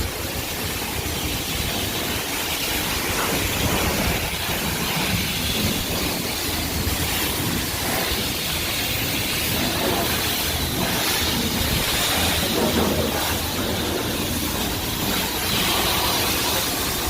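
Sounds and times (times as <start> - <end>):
car wash equipment hissing: 0.0 - 17.0.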